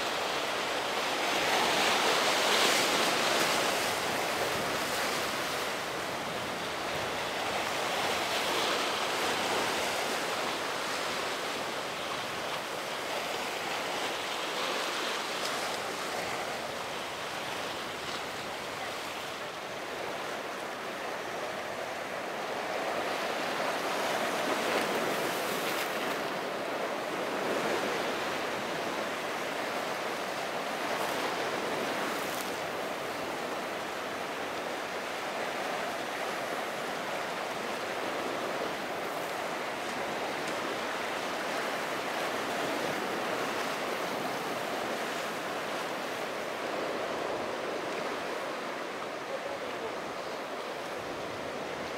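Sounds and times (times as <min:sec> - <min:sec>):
waves breaking: 0:00.0 - 0:51.9.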